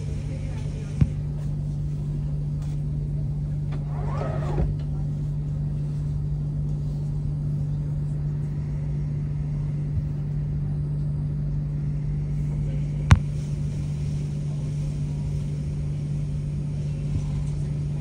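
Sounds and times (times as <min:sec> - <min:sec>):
low electrical hum in train: 0:00.0 - 0:18.0.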